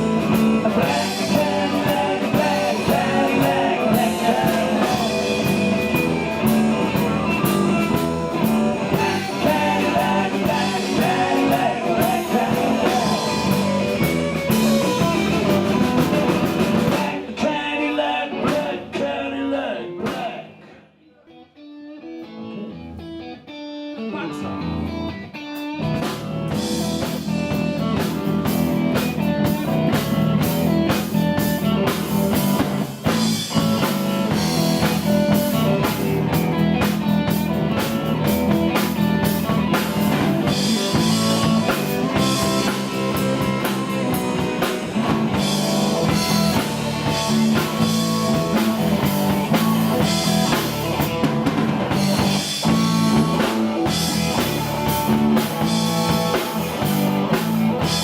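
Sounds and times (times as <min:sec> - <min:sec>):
blues-rock band playing: 0:00.0 - 0:19.0, 0:21.4 - 0:58.0
electric guitar: 0:00.0 - 0:58.0.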